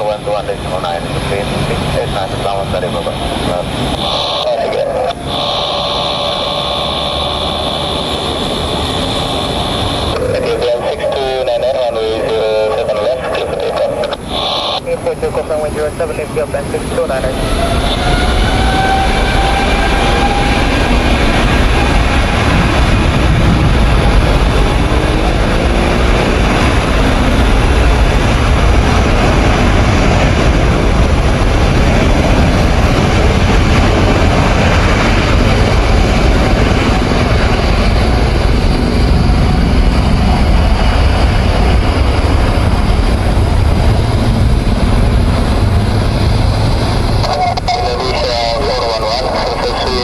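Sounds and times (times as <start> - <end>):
jet engines at takeoff thrust: 0.0 - 50.0.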